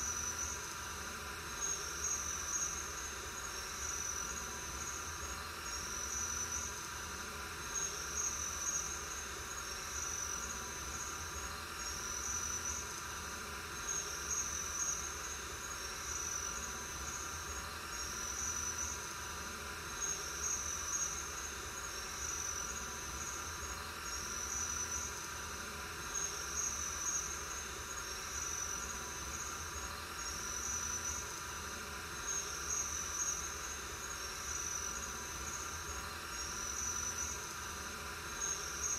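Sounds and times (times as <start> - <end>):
background hiss: 0.0 - 38.9
crickets chirping: 0.0 - 38.9.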